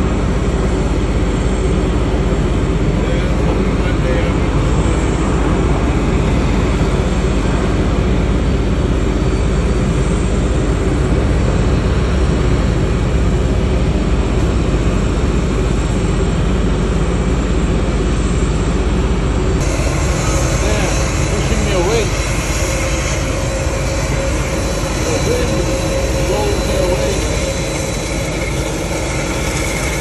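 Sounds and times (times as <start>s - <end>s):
jet aircraft rumble: 0.0s - 30.0s.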